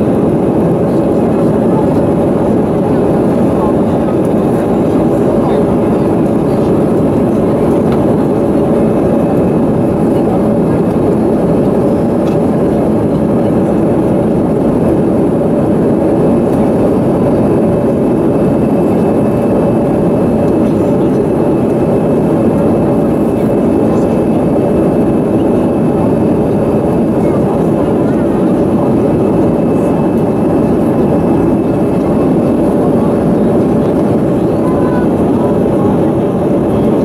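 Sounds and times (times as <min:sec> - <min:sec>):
jet cabin engine hum: 0:00.0 - 0:37.0.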